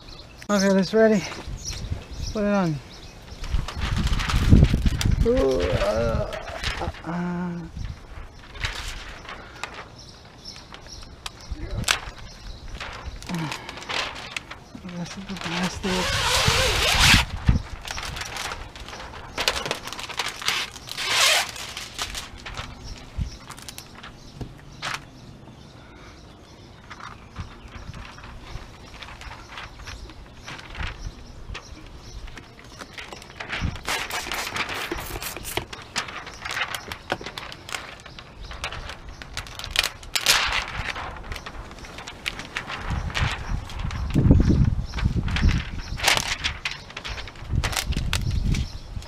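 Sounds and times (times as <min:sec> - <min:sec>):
plastic film crinkling: 0:03.2 - 0:25.2, 0:26.9 - 0:49.0.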